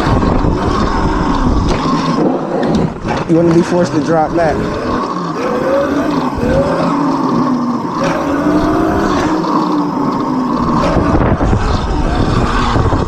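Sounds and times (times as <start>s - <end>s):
electric motorbike motor whining: 0.0s - 13.0s
wind rumble on microphone: 0.0s - 13.0s.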